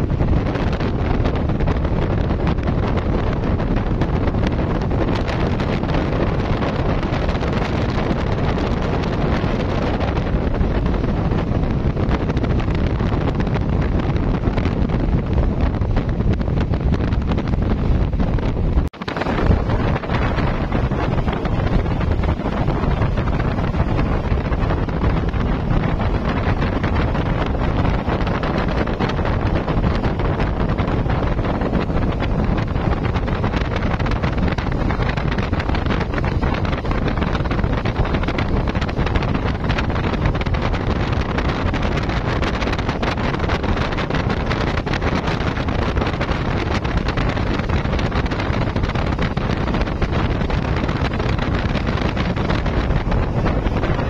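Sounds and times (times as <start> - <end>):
speedboat engine drone: 0.0 - 54.0
water rushing past hull: 0.0 - 54.0
wind buffeting microphone: 0.0 - 54.0.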